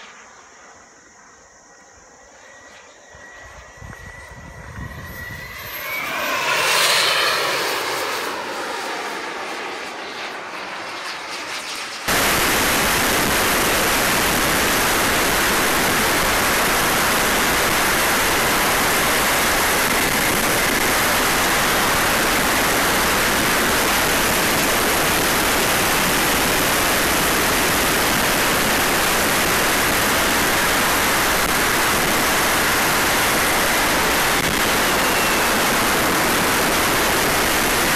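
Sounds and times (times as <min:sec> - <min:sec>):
jet whine passing by: 0:00.0 - 0:37.9
rush of airflow and turbine: 0:00.0 - 0:37.9.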